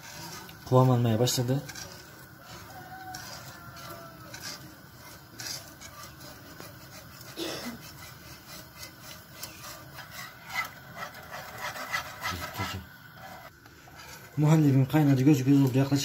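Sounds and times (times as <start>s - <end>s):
whisk scraping a frying pan: 0.0s - 16.0s.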